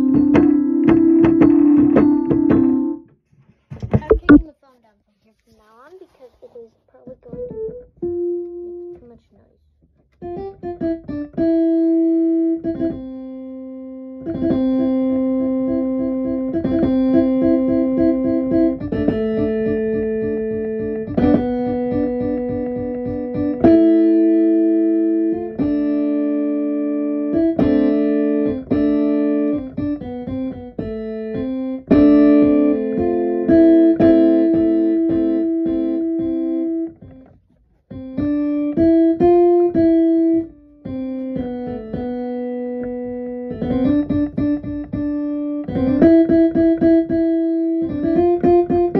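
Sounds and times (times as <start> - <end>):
electric keyboard tune: 0.0 - 3.1, 7.2 - 9.2, 10.2 - 48.9.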